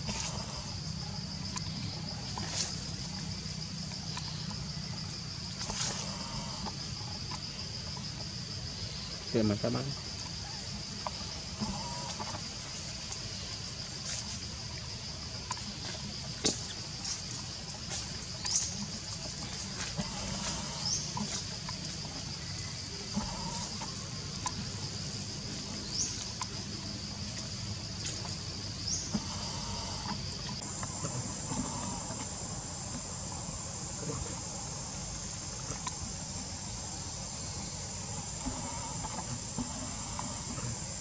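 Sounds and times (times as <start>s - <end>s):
high-pitched insect drone: 0.0s - 41.0s.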